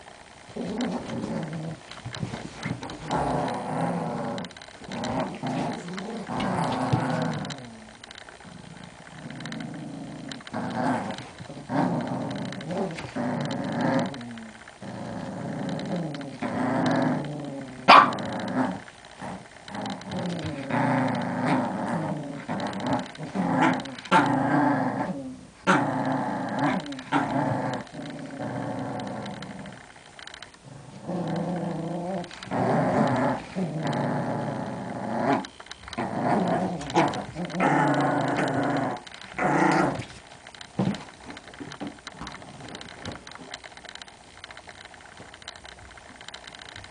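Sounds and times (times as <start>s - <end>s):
small dogs growling: 0.4s - 44.0s.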